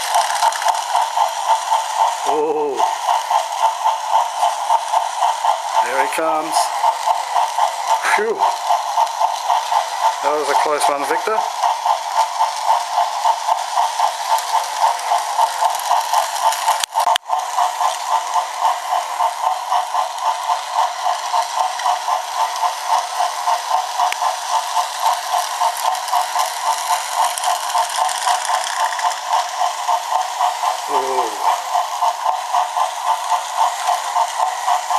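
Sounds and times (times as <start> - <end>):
toy motors whirring and clattering: 0.0 - 34.9.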